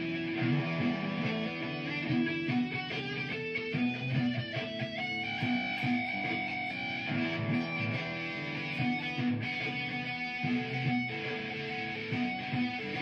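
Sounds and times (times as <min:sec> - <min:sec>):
electric guitar lead line: 0:00.0 - 0:13.0
looped guitar figure: 0:00.0 - 0:13.0.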